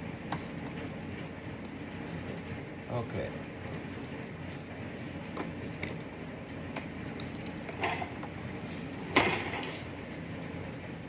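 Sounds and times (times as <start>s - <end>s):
low shop hum: 0.0s - 11.0s.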